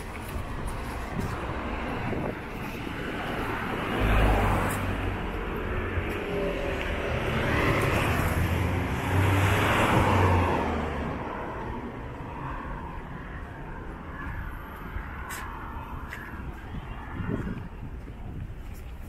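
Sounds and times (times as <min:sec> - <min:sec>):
vehicles passing: 0:00.0 - 0:19.0.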